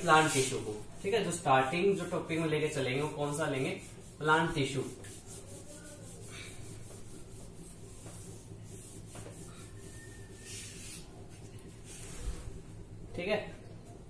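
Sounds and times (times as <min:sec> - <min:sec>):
eraser wiping whiteboard: 0:00.0 - 0:12.6
steady low hum: 0:00.0 - 0:14.0.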